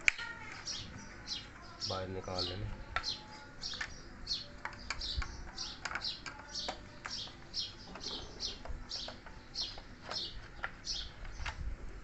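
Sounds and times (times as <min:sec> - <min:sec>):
bird chirping: 0:00.2 - 0:11.6.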